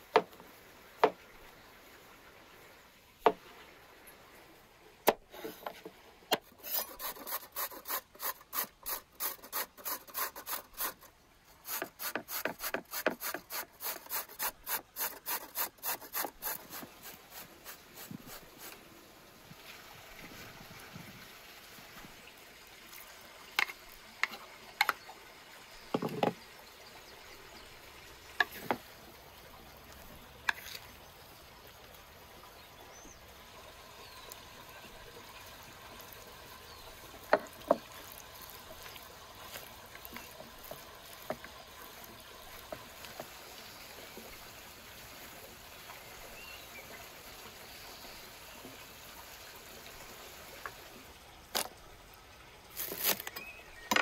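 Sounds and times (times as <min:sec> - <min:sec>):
stream trickling: 0:00.0 - 0:54.0.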